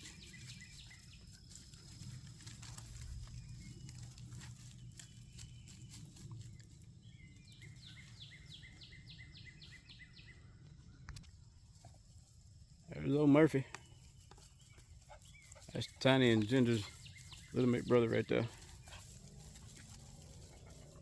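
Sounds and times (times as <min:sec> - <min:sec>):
songbird calling: 0:00.0 - 0:11.5, 0:13.0 - 0:21.0.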